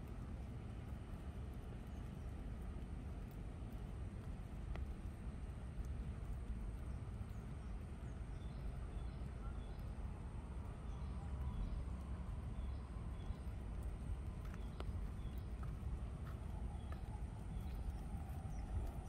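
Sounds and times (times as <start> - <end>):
birds chirping faintly: 0.0 - 19.0
low rumble: 0.0 - 19.0.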